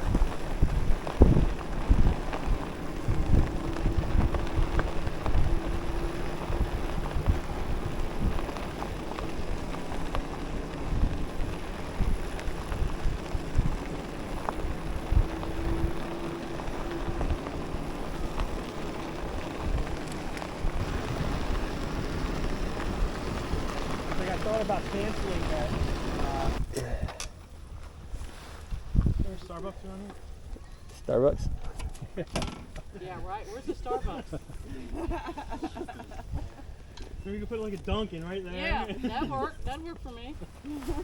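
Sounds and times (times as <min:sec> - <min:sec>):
wind buffeting microphone: 0:00.0 - 0:30.6, 0:31.2 - 0:32.2, 0:33.1 - 0:41.0
e-bike tires rumbling on dirt: 0:00.0 - 0:41.0.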